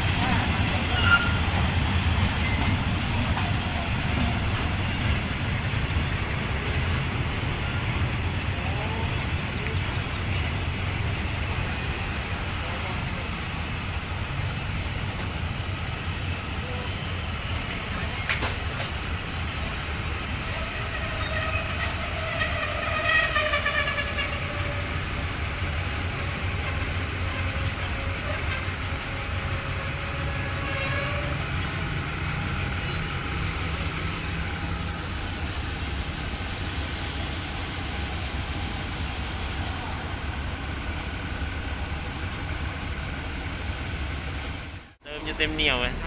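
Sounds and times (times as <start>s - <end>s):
diesel engine rumble: 0.0s - 46.0s.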